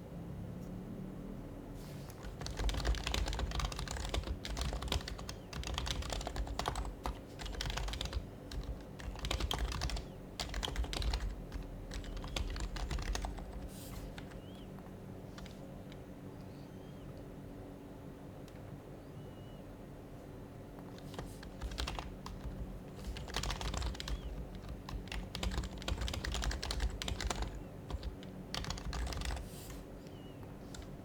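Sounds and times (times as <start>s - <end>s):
keyboard typing: 2.1s - 17.3s, 20.7s - 31.0s.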